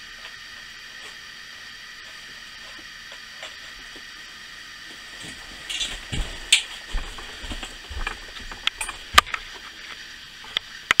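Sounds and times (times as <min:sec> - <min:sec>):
gas burner hiss: 0:00.0 - 0:11.0.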